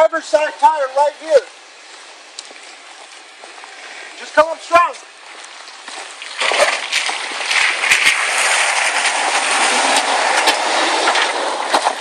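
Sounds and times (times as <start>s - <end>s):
tyres crunching over gravel: 0.0s - 12.0s.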